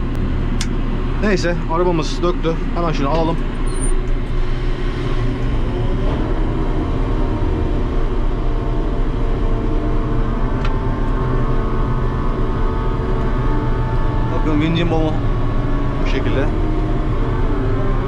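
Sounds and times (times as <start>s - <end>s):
crane mechanical drone with whine: 0.0s - 18.0s.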